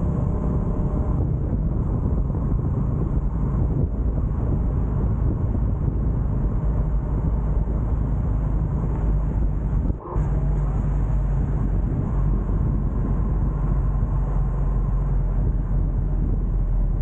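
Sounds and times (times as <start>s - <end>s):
road noise: 0.0s - 17.0s
wind rumble on microphone: 0.0s - 17.0s.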